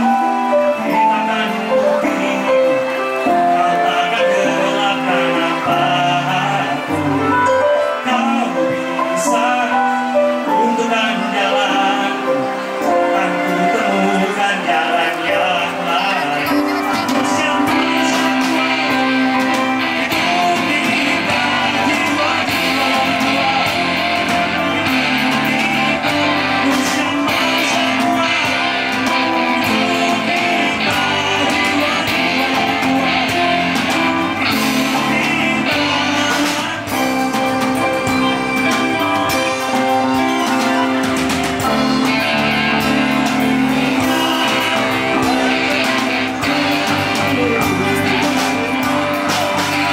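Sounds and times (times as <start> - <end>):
bass guitar: 0.0 - 49.9
drums: 0.0 - 49.9
electric guitars: 0.0 - 49.9
keyboard: 0.0 - 49.9
man singing: 0.0 - 49.9.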